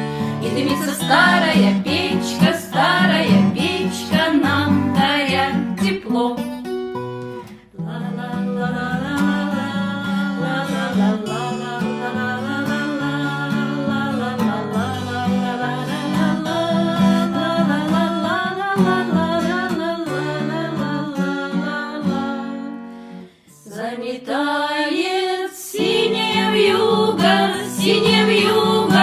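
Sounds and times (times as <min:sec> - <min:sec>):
acoustic guitar accompaniment: 0:00.0 - 0:29.0.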